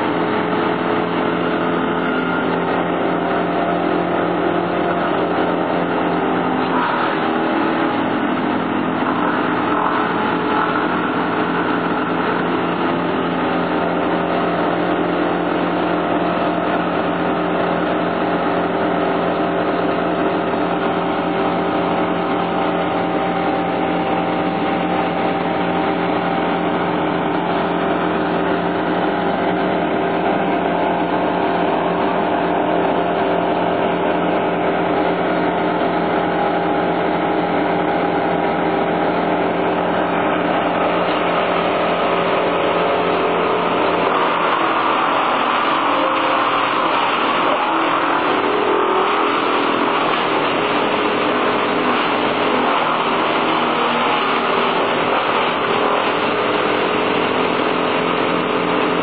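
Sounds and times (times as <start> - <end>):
wood chipper engine running: 0.0 - 59.0.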